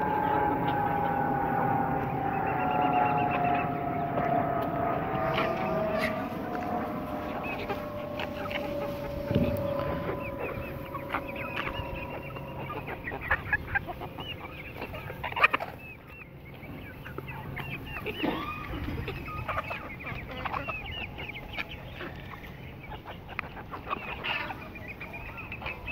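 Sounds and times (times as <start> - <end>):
chickens clucking and peeping: 0.0 - 25.9.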